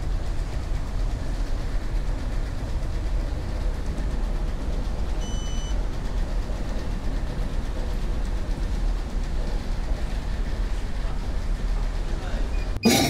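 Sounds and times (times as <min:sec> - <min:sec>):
city background rumble: 0:00.0 - 0:12.8.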